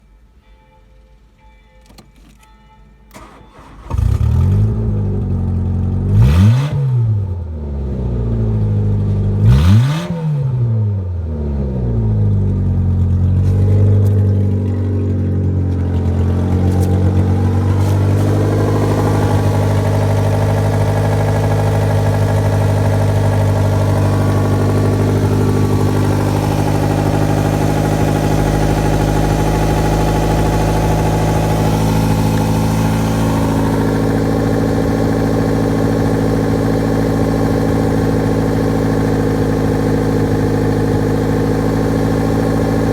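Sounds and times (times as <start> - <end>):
petrol engine revving and idling: 3.2 - 42.9.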